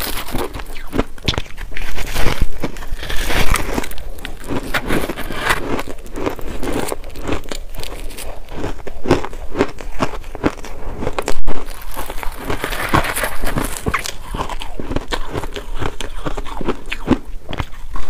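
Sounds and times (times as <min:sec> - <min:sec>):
chewing crushed ice: 0:00.0 - 0:18.0.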